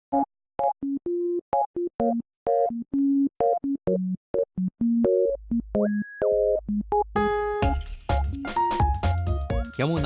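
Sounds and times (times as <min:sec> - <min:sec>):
synthesizer music: 0:00.6 - 0:10.0.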